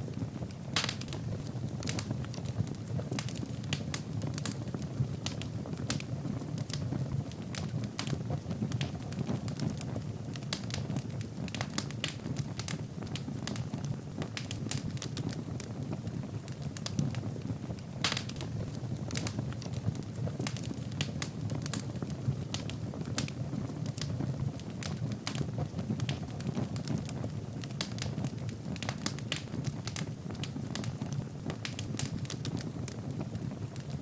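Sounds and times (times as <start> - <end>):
fire flames rushing: 0.0 - 34.0
logs crackling and popping: 0.0 - 34.0.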